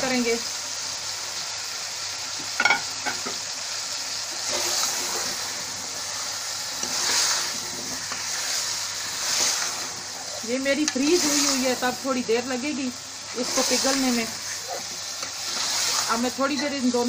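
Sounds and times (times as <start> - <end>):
food sizzling in steel pot: 0.0 - 17.0.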